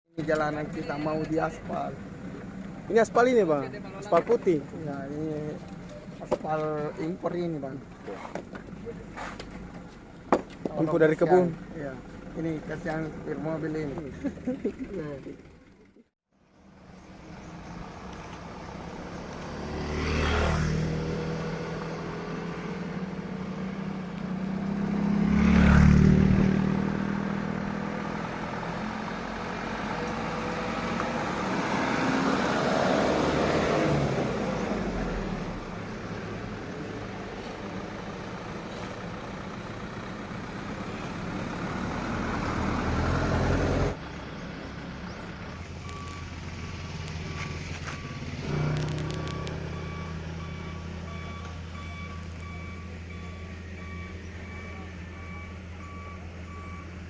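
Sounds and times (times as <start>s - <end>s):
vehicles driving past: 0.2s - 57.0s.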